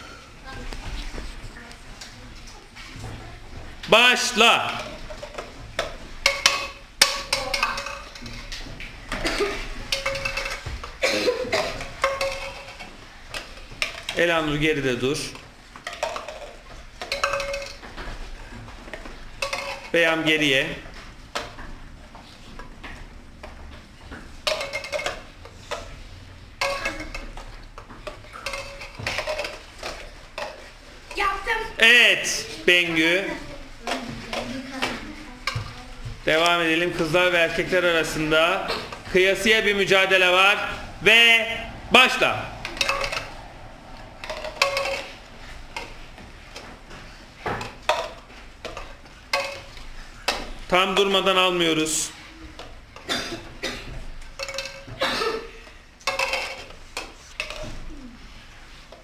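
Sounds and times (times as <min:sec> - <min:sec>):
plastic cups clattering on table: 0:02.0 - 0:59.0.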